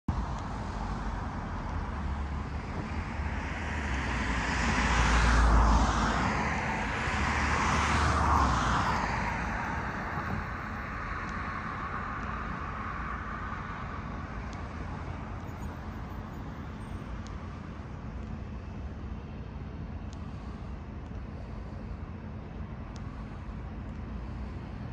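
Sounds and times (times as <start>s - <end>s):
traffic hum: 0.1s - 24.9s
vehicles passing: 0.1s - 24.9s.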